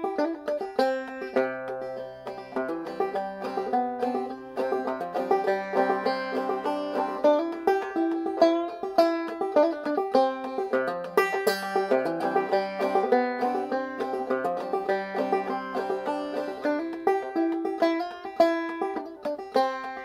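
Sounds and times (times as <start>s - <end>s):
banjo playing melody: 0.0s - 20.0s.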